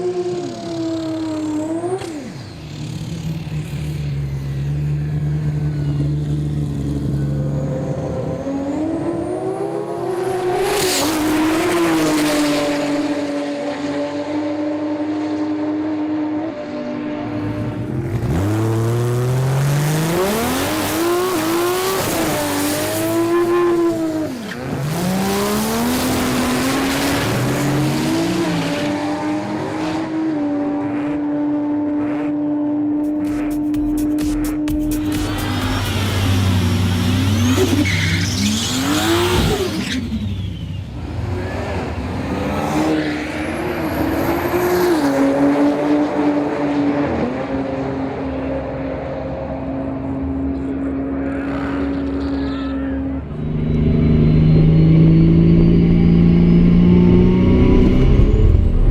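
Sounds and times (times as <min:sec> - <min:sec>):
car engine at high revs: 0:00.0 - 0:58.9.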